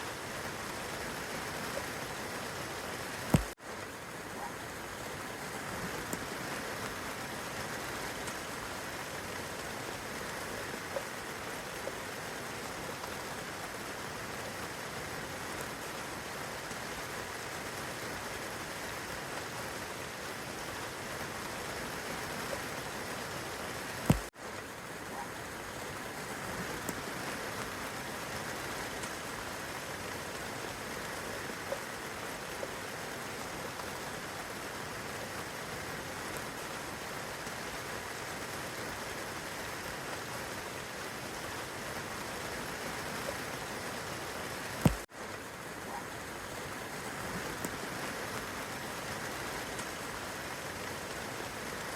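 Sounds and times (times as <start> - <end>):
rain falling on leaves: 0.0 - 51.9.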